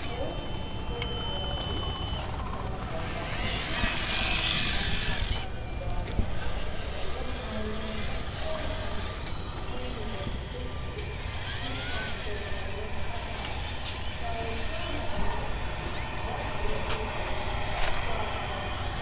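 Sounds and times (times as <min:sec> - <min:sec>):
distant indistinct voices: 0:00.0 - 0:19.0.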